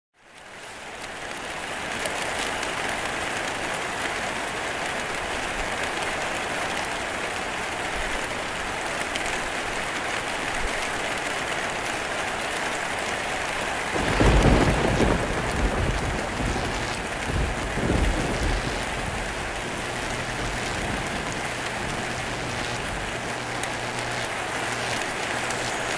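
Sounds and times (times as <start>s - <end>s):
steady rain patter: 0.2s - 25.9s.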